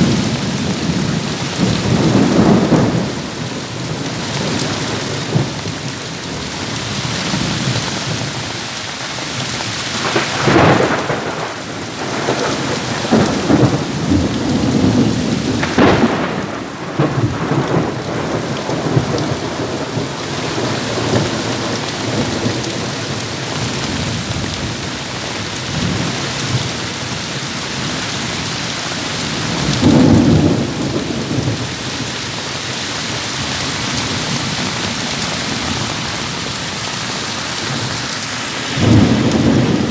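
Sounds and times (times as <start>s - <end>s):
thunder rumbling: 0.0s - 8.4s, 9.9s - 27.2s, 29.1s - 32.1s, 33.6s - 39.9s
heavy rain falling: 0.0s - 39.9s.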